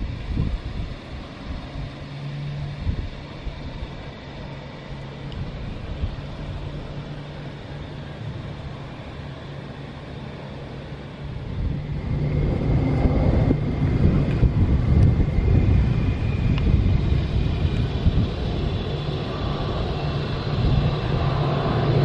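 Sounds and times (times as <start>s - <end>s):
distant engine drone: 0.0s - 22.0s
wind buffeting microphone: 0.0s - 22.0s.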